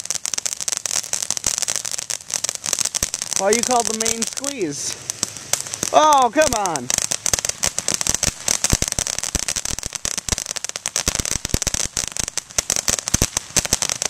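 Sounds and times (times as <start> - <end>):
firework crackling pops: 0.0 - 14.0
firework fountain hissing: 0.0 - 14.0.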